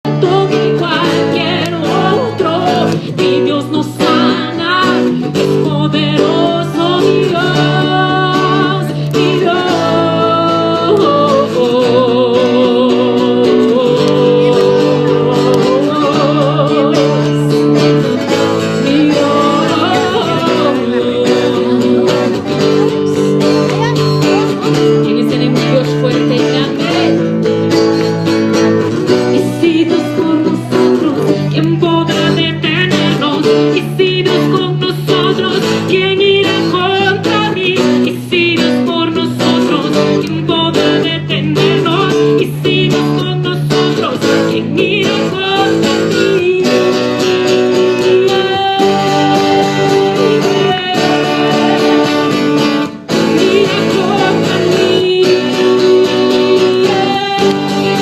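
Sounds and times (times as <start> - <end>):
acoustic guitar: 0.0 - 58.0
group singing: 0.1 - 23.4, 24.8 - 58.0.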